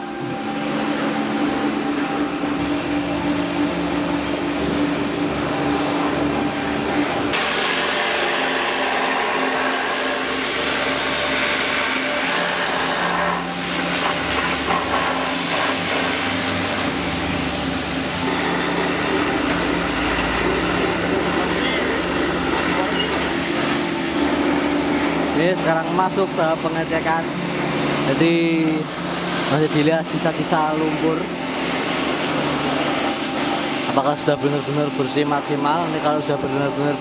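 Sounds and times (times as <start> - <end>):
washer motor hum: 0.0 - 37.0.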